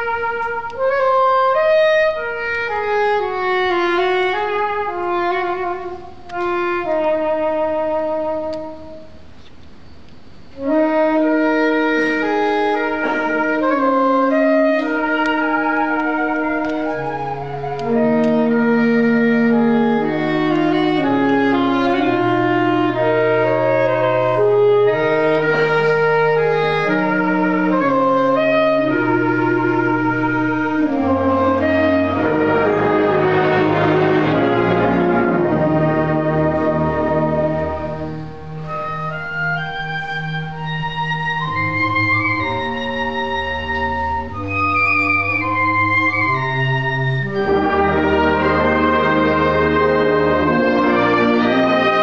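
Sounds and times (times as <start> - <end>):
concert band playing slow chords: 0.0 - 44.7, 45.4 - 52.0
clarinets and flute: 0.0 - 52.0.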